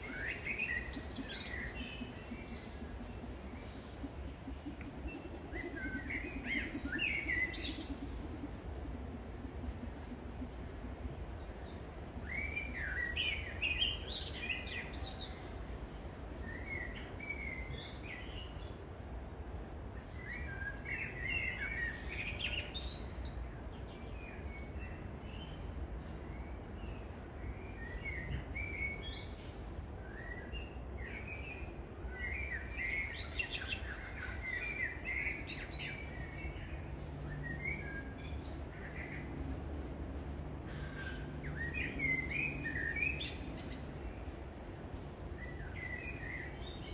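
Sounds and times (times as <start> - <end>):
birds chirping: 0.0 - 46.9
steady low rumble: 0.0 - 46.9.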